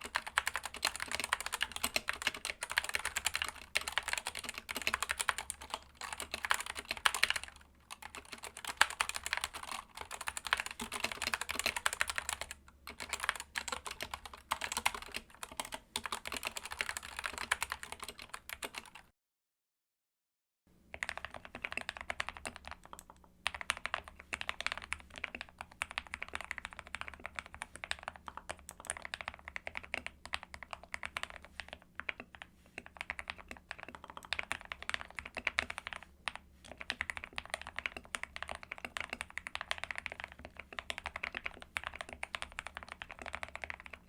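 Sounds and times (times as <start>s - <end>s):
rapid keyboard typing: 0.0s - 19.1s, 20.9s - 44.0s.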